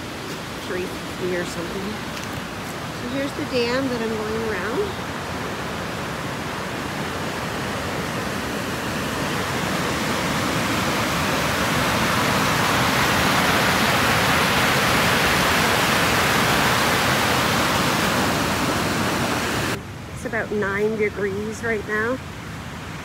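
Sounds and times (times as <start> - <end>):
water rushing over dam spillway: 0.0 - 23.0.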